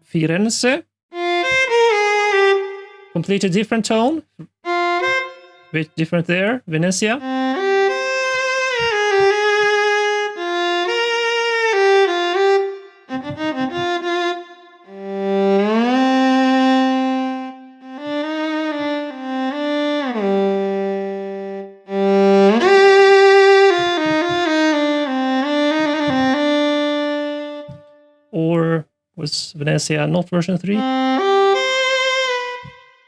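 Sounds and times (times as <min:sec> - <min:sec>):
solo viola playing legato phrases: 0:01.1 - 0:28.1, 0:30.8 - 0:33.0.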